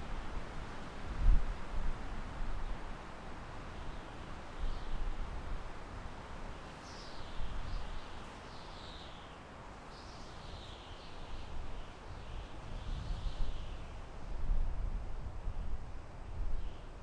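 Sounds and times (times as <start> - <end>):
wind through forest trees: 0.0 - 17.0.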